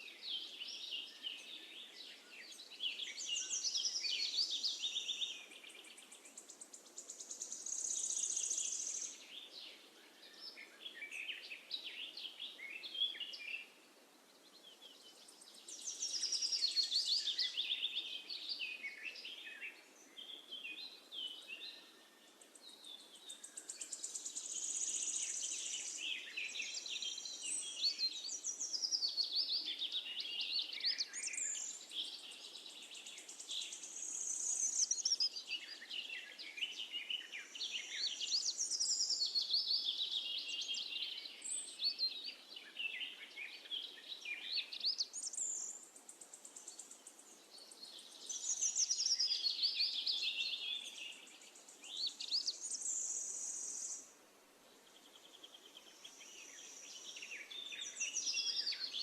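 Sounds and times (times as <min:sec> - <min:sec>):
faint steady hiss: 0:00.0 - 0:59.0
birds chirping and trilling: 0:00.3 - 0:13.8, 0:14.4 - 0:54.1, 0:54.7 - 0:59.0.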